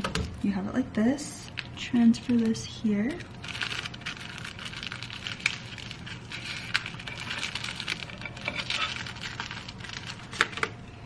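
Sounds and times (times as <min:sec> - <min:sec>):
plastic wrapper crinkling: 0:01.4 - 0:10.8.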